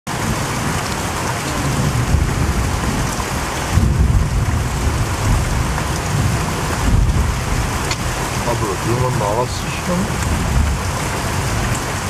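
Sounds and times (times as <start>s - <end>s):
rain falling on leaves: 0.1s - 12.0s
low rumble: 1.4s - 11.9s.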